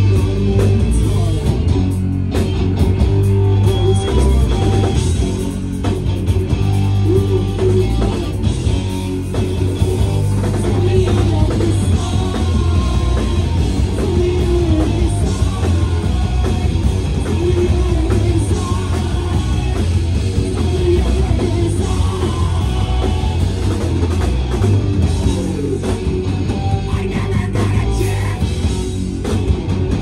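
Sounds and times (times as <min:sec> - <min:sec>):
rock band with singing: 0:00.0 - 0:30.0.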